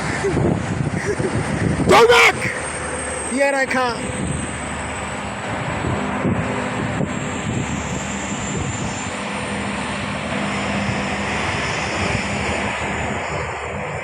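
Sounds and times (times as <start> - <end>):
wind on microphone: 0.0 - 2.8, 4.0 - 4.6, 5.2 - 14.0.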